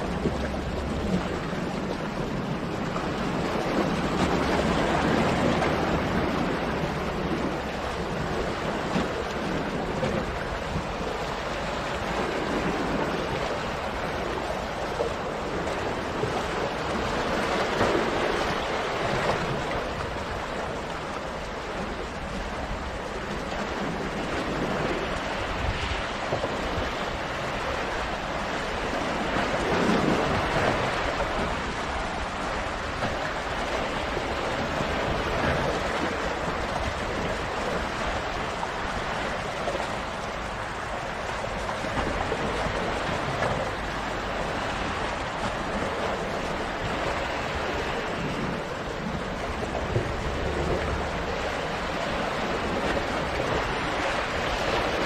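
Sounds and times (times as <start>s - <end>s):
waves breaking on boulders: 0.0s - 55.0s.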